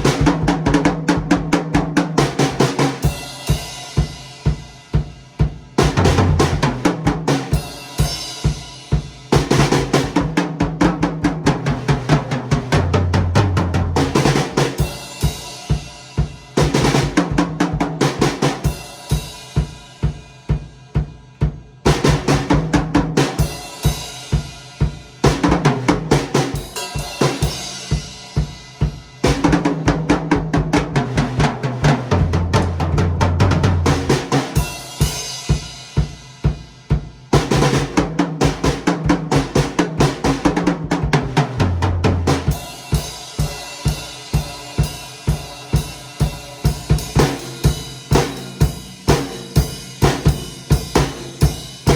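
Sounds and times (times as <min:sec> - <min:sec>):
drum kit playing: 0:00.0 - 0:51.9.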